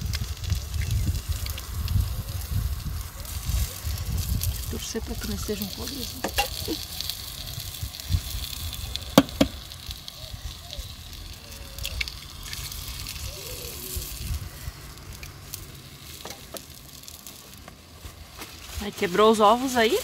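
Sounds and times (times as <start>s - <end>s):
eggs sizzling in a pan: 0.0s - 20.0s.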